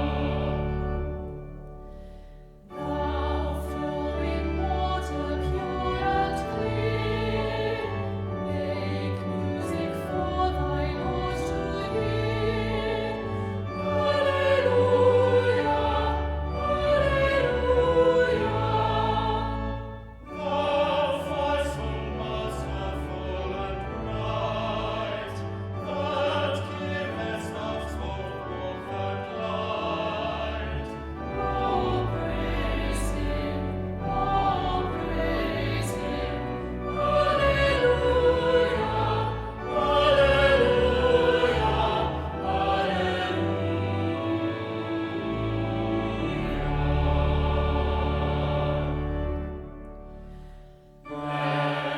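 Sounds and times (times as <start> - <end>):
classical singing: 0.0 - 51.9.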